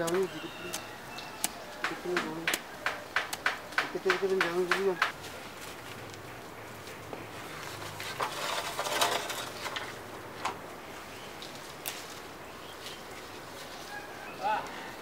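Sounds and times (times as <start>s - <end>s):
stiff leaves rustling: 0.0s - 15.0s.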